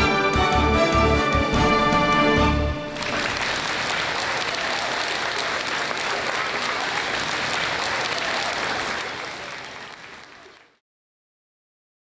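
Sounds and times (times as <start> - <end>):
large audience clapping: 0.0 - 2.0, 2.8 - 10.8.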